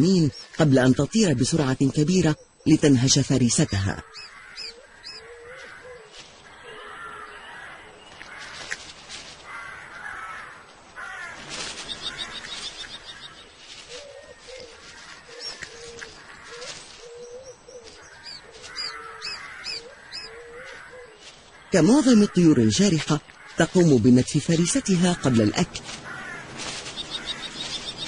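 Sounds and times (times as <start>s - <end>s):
higher bird chirps: 0.0s - 28.0s
low harsh bird calls: 1.9s - 28.0s.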